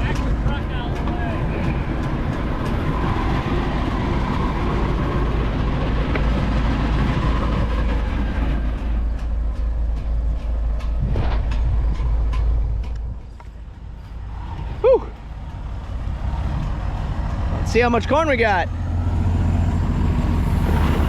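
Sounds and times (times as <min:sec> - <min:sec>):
farm machinery rumbling: 0:00.0 - 0:21.0.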